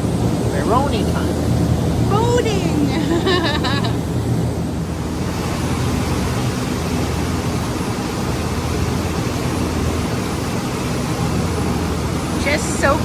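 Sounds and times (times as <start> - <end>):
boat engine drone: 0.0 - 13.0
rush of wind and water: 0.0 - 13.0.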